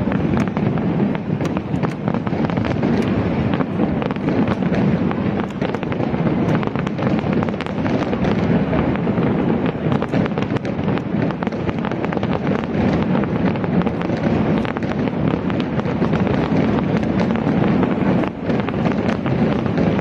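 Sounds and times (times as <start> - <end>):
fireworks cracking: 0.0 - 20.0
low booming of fireworks: 0.0 - 20.0.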